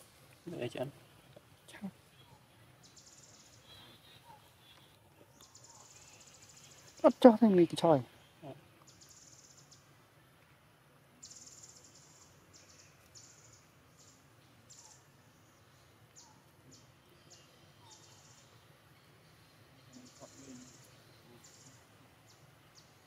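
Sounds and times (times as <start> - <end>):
faint high-pitched chirping: 0.6 - 10.4, 11.2 - 23.0.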